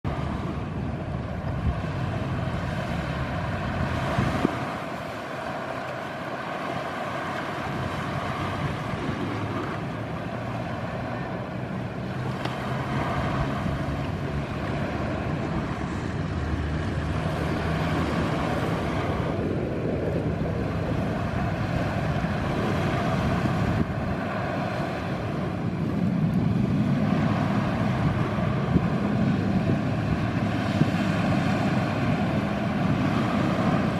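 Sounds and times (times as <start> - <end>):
jet engines roaring: 0.0 - 33.9
wind buffeting microphone: 0.0 - 33.9.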